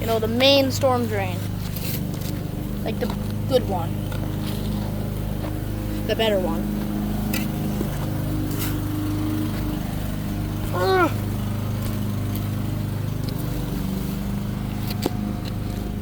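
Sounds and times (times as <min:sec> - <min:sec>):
small engine droning: 0:00.0 - 0:16.0.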